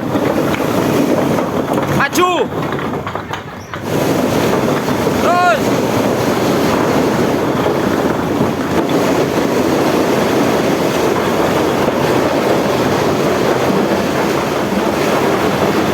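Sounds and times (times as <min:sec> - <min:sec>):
road paving machinery din: 0:00.0 - 0:15.9.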